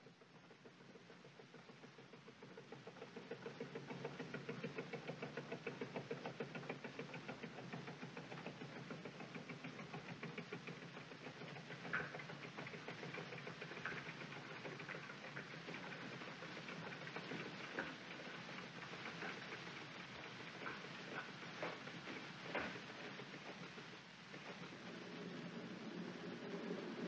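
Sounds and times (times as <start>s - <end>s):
motorboat engine chugging: 0.0s - 27.0s.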